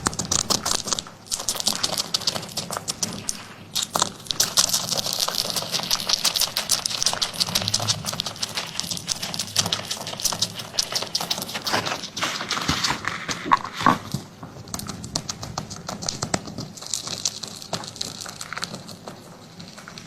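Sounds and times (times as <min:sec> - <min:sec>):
cat eating: 0:00.0 - 0:20.0.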